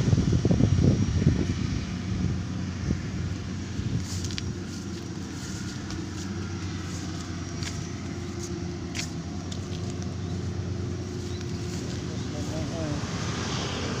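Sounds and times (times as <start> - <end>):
combine harvester engine running: 0.0 - 14.0.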